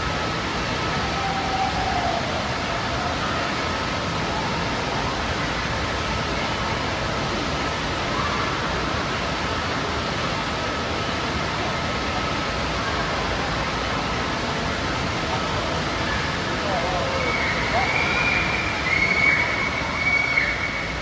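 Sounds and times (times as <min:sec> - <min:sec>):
water rushing: 0:00.0 - 0:21.0
faint voices: 0:00.7 - 0:21.0.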